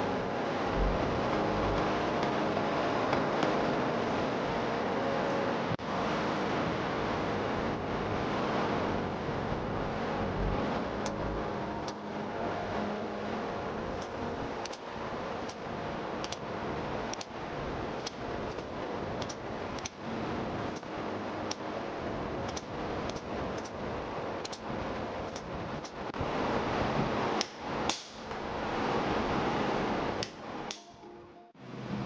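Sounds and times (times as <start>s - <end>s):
continuous rushing roar: 0.0s - 32.0s.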